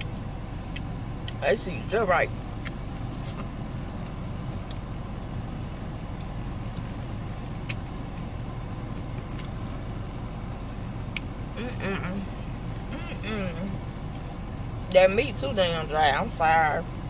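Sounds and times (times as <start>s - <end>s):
idling vehicle engine hum: 0.0s - 17.0s.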